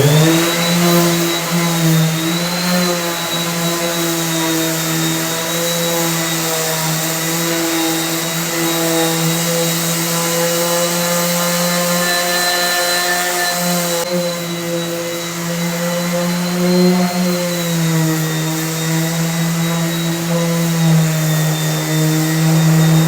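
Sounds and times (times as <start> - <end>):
electric sander running: 0.0 - 23.0.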